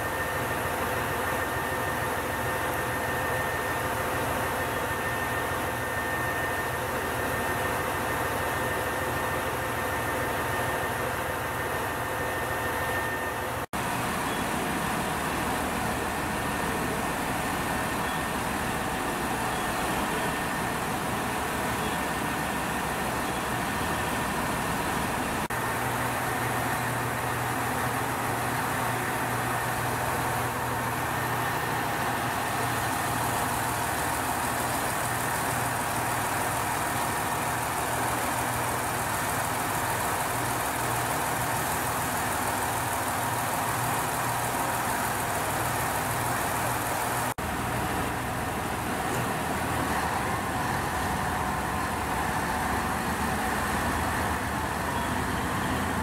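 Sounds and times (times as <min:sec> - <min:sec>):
diesel railcar engine drone: 0:00.0 - 0:56.0.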